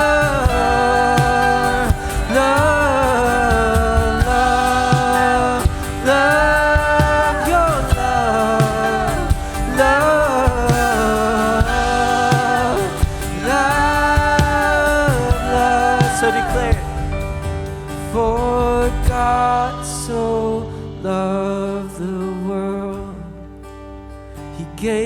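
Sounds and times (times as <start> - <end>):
worship band playing gospel song: 0.0 - 23.3.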